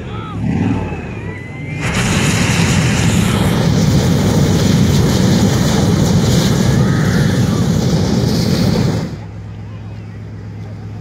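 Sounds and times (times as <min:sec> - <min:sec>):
pickup engine running: 0:00.0 - 0:11.0
exhaust crackle: 0:00.3 - 0:09.5.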